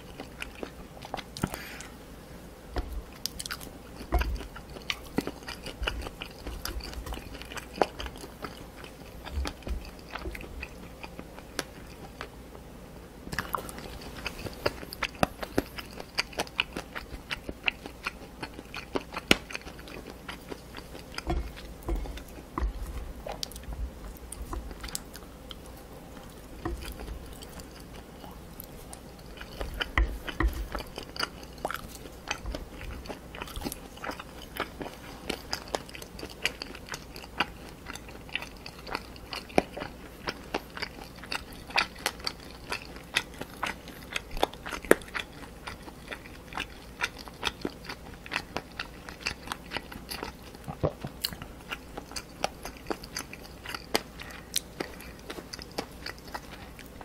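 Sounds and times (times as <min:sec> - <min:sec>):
chewing crunchy cartilage: 0:00.0 - 0:02.0, 0:02.8 - 0:12.4, 0:13.3 - 0:57.0.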